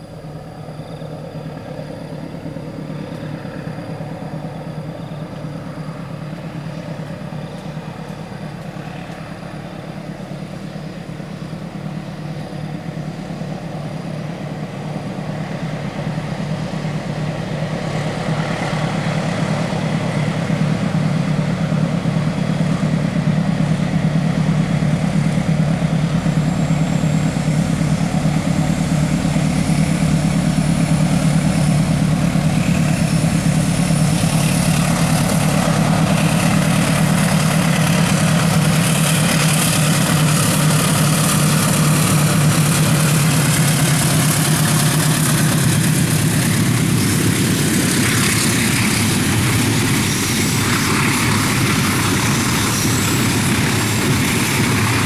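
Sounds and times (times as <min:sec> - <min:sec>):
diesel locomotive engine drone: 0:00.0 - 0:55.0
wheels hissing on rails: 0:00.0 - 0:55.0.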